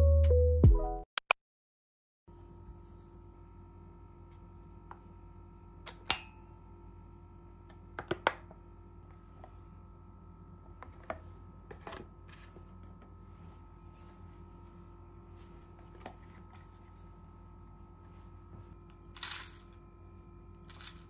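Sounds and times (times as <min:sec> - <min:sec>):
steady low hum: 0:02.3 - 0:21.0.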